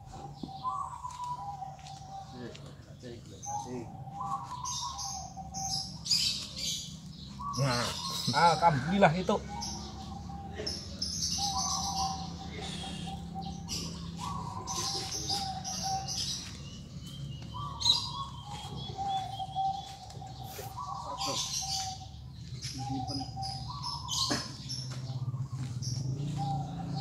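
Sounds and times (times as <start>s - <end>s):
lower bird call: 0.0s - 2.8s, 3.4s - 27.0s
small birds chirping: 0.0s - 27.0s
steady low hum: 0.0s - 27.0s.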